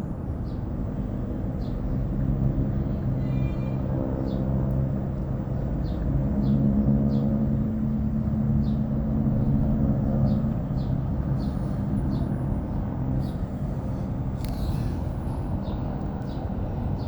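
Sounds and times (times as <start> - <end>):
engine drone: 0.1 - 17.0.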